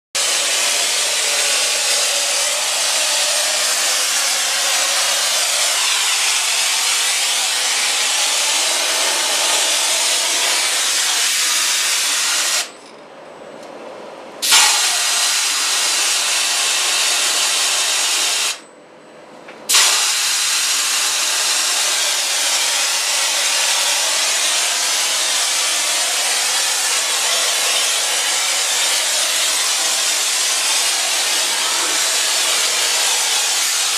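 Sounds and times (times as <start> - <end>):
spray gun burst: 0.2 - 12.7, 14.4 - 18.6, 19.7 - 33.9
spray gun hissing: 0.2 - 12.7, 14.4 - 18.6, 19.7 - 33.9.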